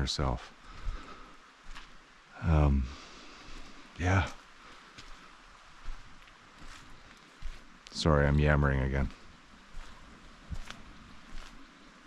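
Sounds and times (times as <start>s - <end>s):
faint background hiss: 0.0s - 12.0s
footsteps on forest trail: 0.4s - 2.1s, 2.9s - 12.0s.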